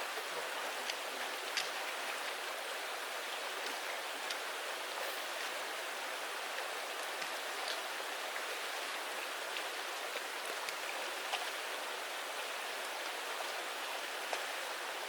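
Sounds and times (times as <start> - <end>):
creek rushing over rocks: 0.0 - 15.0
faint water splashes: 0.0 - 15.0.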